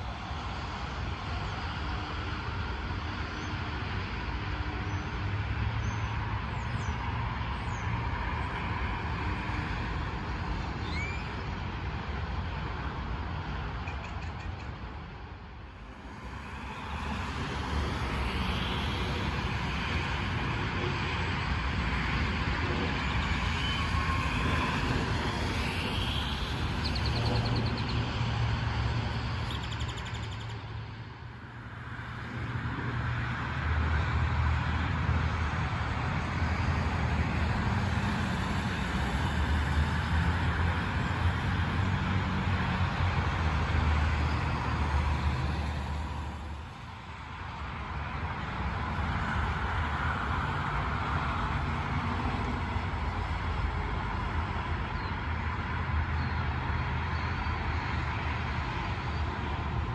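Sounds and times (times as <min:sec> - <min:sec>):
highway traffic passing: 0:00.0 - 0:59.9.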